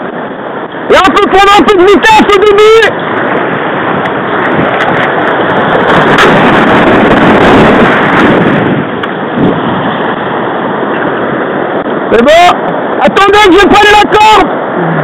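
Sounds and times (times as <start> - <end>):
whitewater rushing through weir: 0.0 - 15.0.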